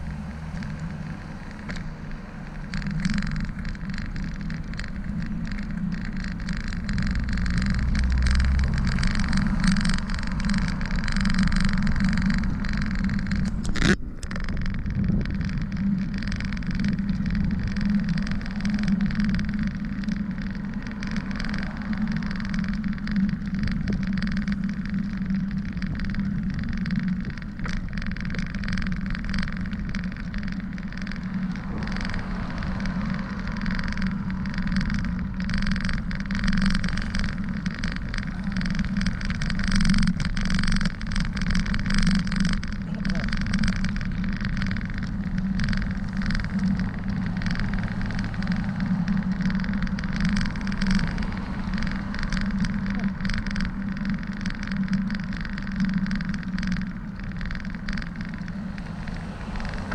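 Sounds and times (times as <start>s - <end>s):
car traffic passing: 0.0s - 13.8s, 14.6s - 59.9s
bicycle tyre and wind noise: 0.0s - 59.9s.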